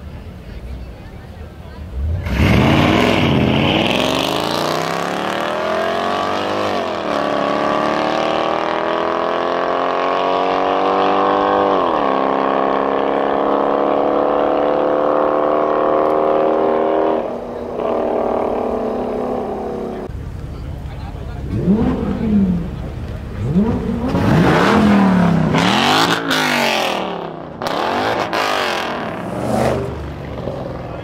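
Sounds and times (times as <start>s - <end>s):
car engine accelerating hard: 1.8s - 20.1s, 21.2s - 31.0s.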